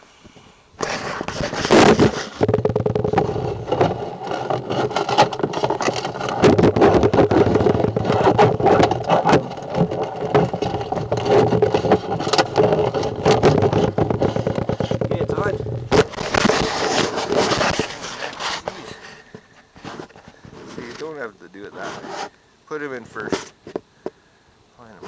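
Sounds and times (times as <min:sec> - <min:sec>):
rattling and scraping: 0:00.8 - 0:22.3.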